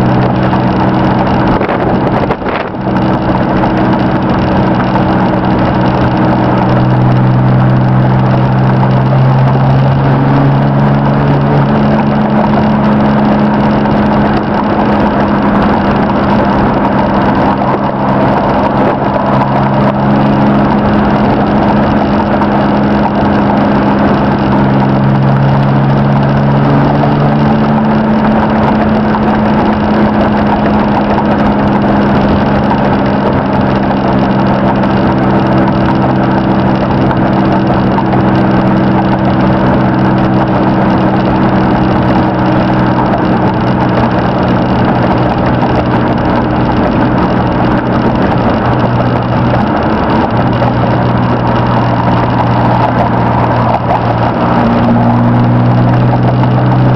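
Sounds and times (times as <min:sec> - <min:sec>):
pickup engine pulling steadily: 0:00.0 - 0:56.9
road noise: 0:00.0 - 0:56.9.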